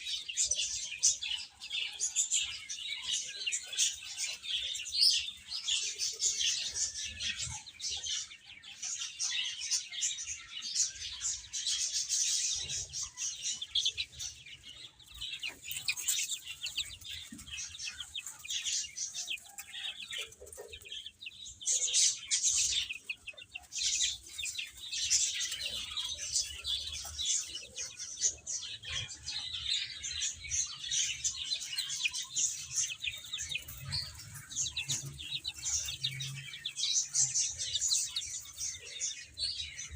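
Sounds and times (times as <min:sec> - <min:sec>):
baby chicks chirping: 0:00.0 - 0:39.9.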